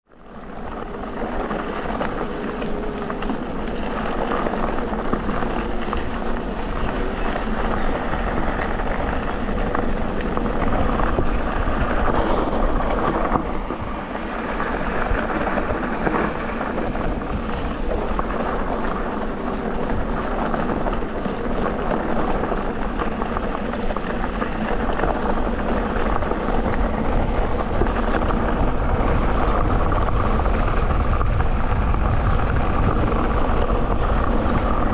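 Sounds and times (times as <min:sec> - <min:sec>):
bike tyres on dirt trail: 0:00.1 - 0:34.9.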